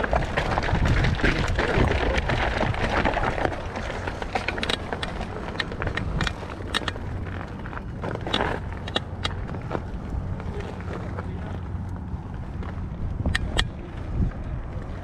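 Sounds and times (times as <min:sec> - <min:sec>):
bike clicks and rattles: 0:00.0 - 0:15.0
low rumble: 0:00.0 - 0:15.0
tyres crunching on dirt: 0:00.0 - 0:15.0.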